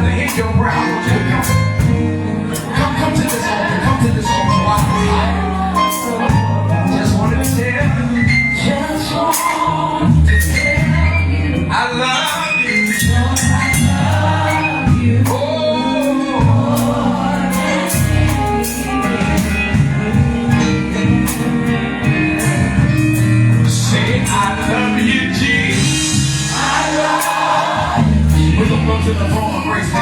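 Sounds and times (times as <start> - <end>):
gospel singing over bass: 0.0 - 30.0.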